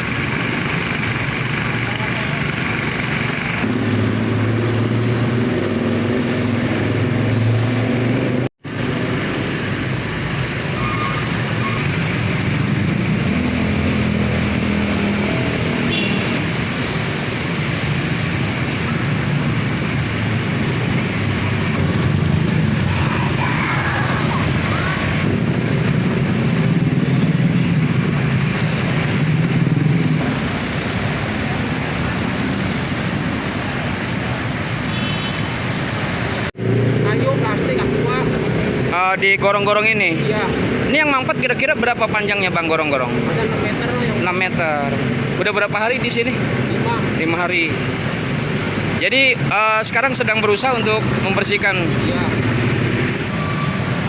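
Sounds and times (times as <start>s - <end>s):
cars and motorcycles passing: 0.0s - 54.0s.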